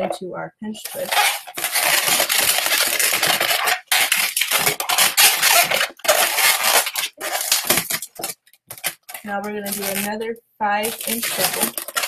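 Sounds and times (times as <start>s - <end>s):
balloon squeaking against hands: 0.9s - 10.1s, 11.0s - 12.0s.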